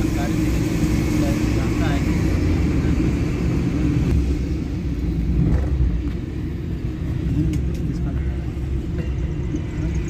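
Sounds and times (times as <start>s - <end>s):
van engine and tyre rumble: 0.0s - 10.0s.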